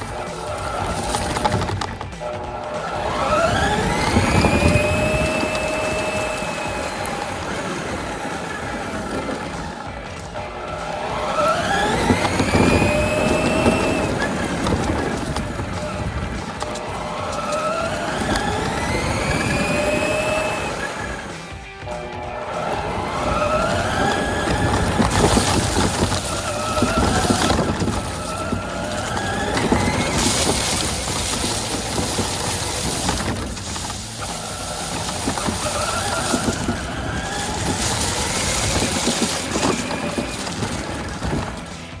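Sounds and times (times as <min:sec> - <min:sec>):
electric motor whining: 0:00.0 - 0:42.0
tyres rushing over ground: 0:00.0 - 0:42.0.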